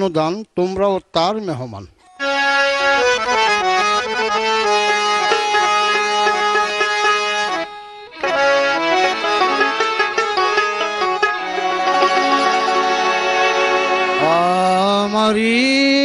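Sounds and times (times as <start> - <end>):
harmonium melody over drone: 2.2 - 16.0.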